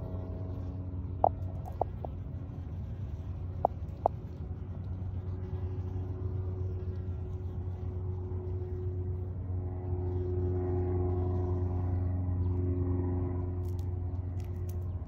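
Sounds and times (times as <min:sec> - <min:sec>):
faint steady tones: 0:00.0 - 0:15.0
low mechanical hum: 0:00.0 - 0:15.0.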